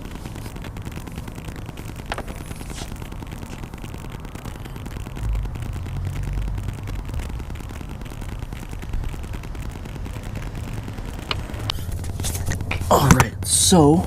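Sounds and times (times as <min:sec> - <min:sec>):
uneven low rumble: 0:00.0 - 0:14.0.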